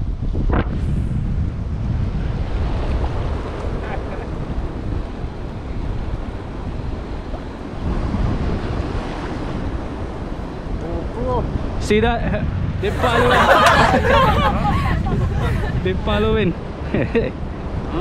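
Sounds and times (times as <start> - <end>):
wind buffeting microphone: 0.0 - 18.0
choppy sea water: 1.7 - 11.8, 12.8 - 17.9.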